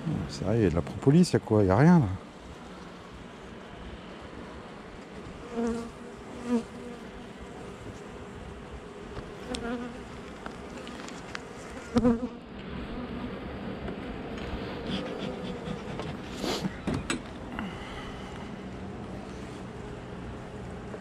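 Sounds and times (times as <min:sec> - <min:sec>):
honeybees buzzing: 0:02.0 - 0:16.8, 0:17.4 - 0:21.0.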